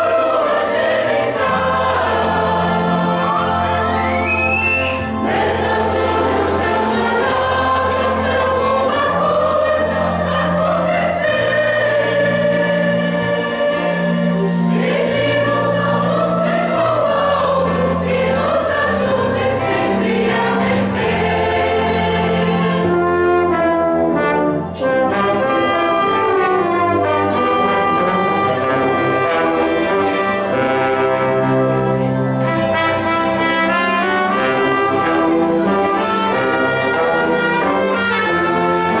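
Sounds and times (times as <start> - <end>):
church choir singing a hymn: 0.0 - 39.0
violins and brass playing: 0.0 - 39.0.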